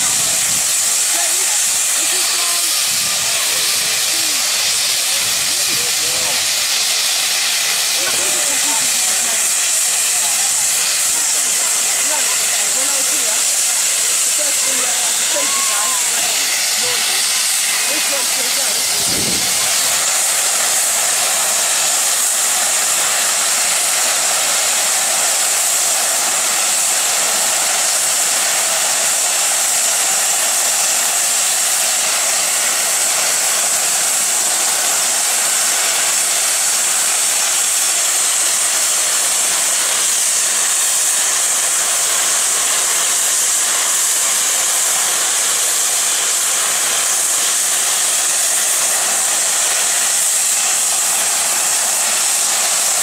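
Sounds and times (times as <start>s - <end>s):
steam hissing from safety valves: 0.0s - 53.0s.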